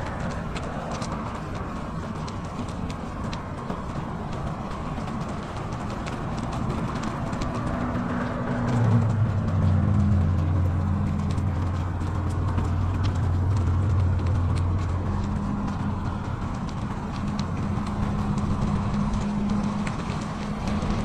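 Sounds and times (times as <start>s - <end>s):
bicycle rolling on snow: 0.0s - 21.0s
light clicking and rattling: 0.0s - 21.0s
steady low hum: 0.0s - 21.0s.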